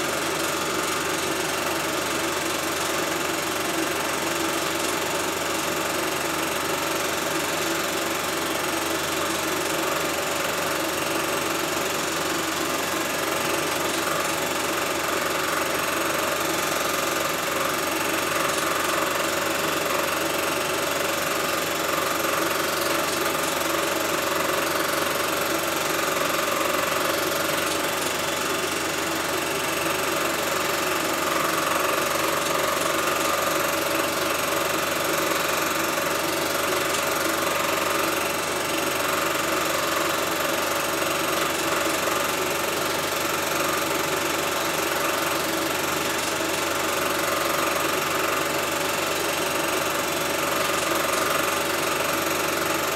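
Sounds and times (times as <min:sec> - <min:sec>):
film projector whirring and rattling: 0:00.0 - 0:52.9.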